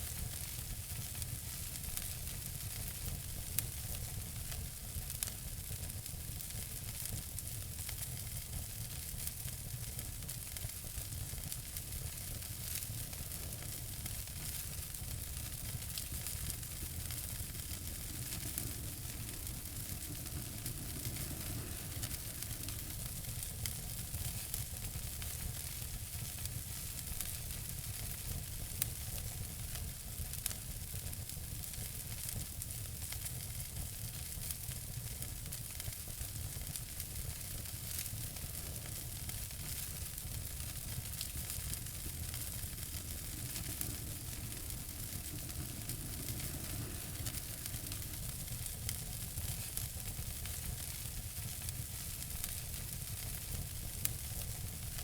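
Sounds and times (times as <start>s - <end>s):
fire crackles and pops: 0.0s - 55.0s
wood fire burning: 0.0s - 55.0s.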